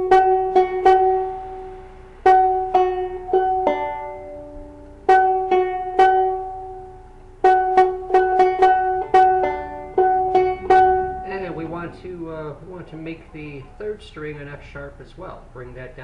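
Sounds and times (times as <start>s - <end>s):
banjo strings plucked: 0.0s - 14.0s.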